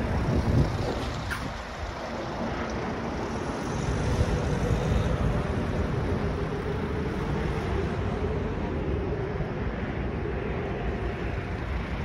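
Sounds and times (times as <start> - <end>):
road traffic: 0.0 - 12.0
wind on microphone: 0.0 - 12.0.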